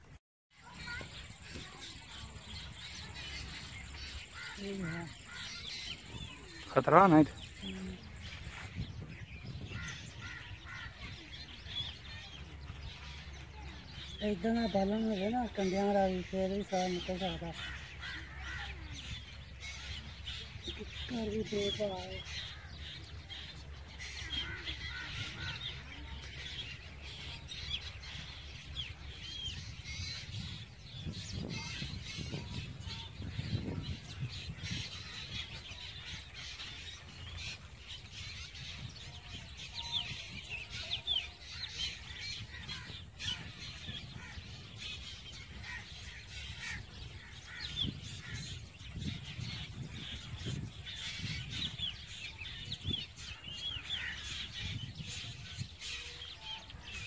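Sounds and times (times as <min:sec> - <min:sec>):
birds chirping: 0:00.0 - 0:57.0
wind rumble on microphone: 0:00.0 - 0:57.0.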